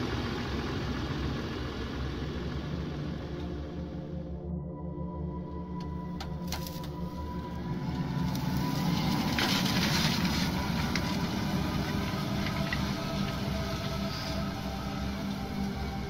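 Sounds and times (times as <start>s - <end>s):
tractor diesel engine under load: 0.0s - 4.5s, 5.2s - 16.0s.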